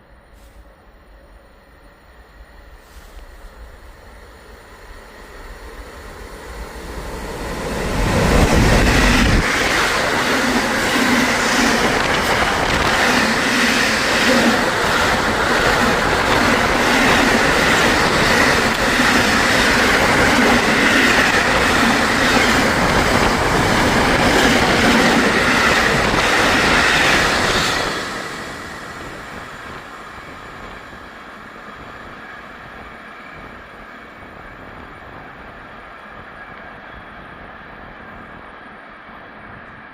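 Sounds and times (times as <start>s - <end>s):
train wheel and rail noise: 0.0s - 39.9s.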